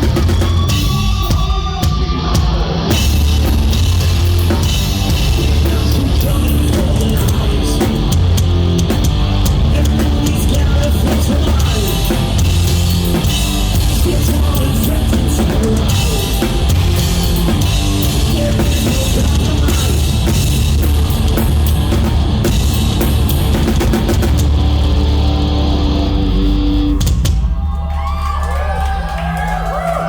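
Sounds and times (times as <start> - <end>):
heavy rock band playing: 0.0 - 27.8.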